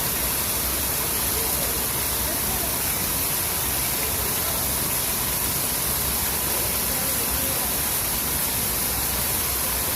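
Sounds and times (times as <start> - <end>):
waterfall hiss: 0.0 - 9.9.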